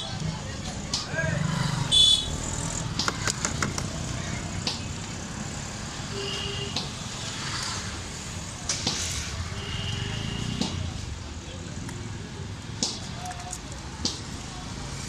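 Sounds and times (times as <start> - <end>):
busy street traffic hum: 0.0 - 15.0.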